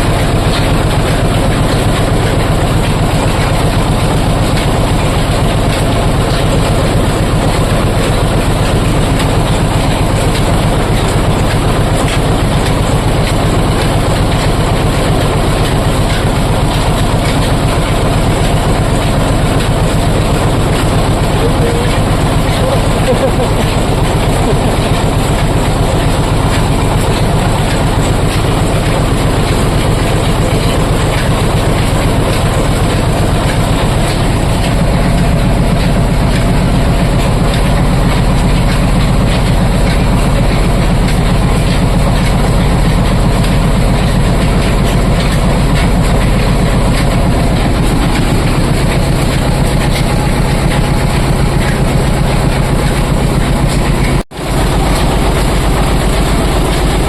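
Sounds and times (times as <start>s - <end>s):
oil expeller machine droning: 0.0s - 57.0s.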